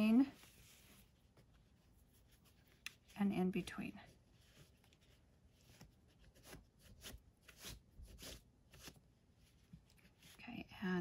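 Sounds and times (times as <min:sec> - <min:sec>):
fabric rustling and rubbing: 0:00.0 - 0:10.6.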